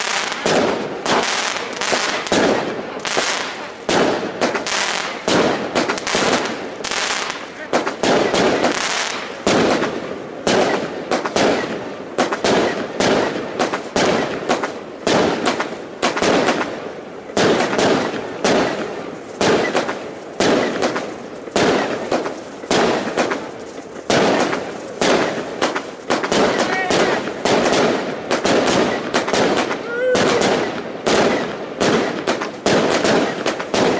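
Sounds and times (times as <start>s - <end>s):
fireworks bangs with rumbling echo: 0.0s - 33.9s.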